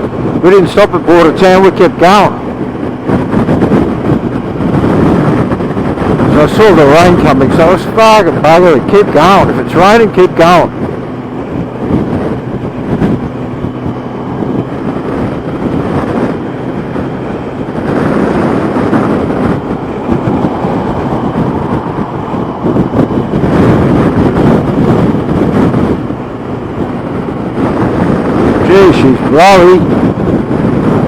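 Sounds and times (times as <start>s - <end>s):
motorcycle engine drone: 0.0s - 31.0s
wind buffeting microphone: 0.0s - 31.0s.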